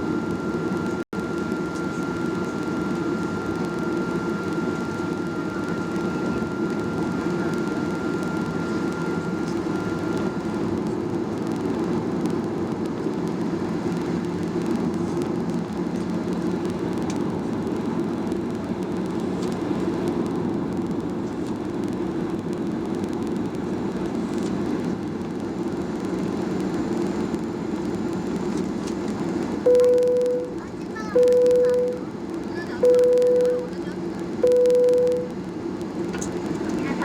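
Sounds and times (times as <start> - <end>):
airplane cabin engine drone: 0.0 - 37.0.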